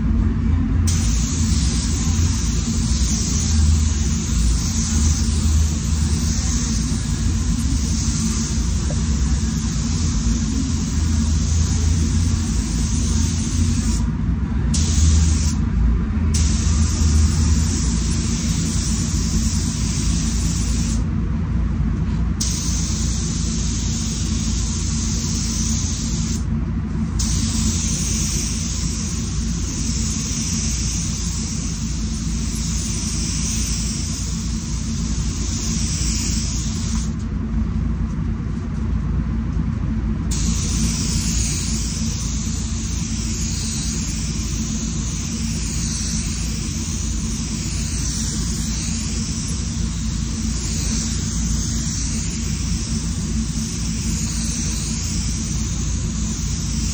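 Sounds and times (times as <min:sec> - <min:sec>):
low rumble of air system: 0:00.0 - 0:56.9
spray gun hissing: 0:00.9 - 0:14.1, 0:14.7 - 0:15.6, 0:16.3 - 0:21.1, 0:22.4 - 0:26.5, 0:27.1 - 0:37.2, 0:40.3 - 0:56.9.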